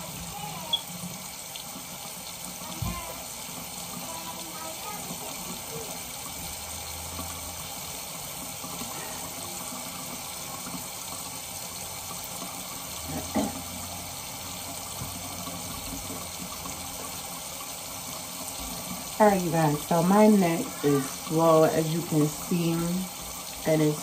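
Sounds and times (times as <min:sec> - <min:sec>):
water running from a tap: 0:00.0 - 0:24.0.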